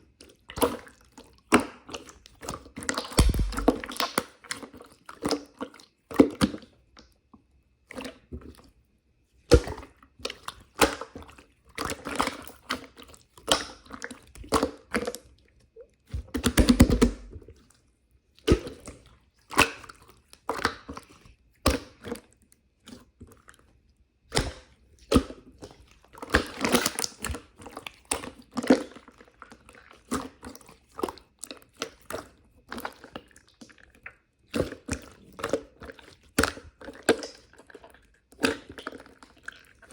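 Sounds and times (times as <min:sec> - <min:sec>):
chewing crunchy food: 0:00.0 - 0:06.8, 0:09.6 - 0:39.9.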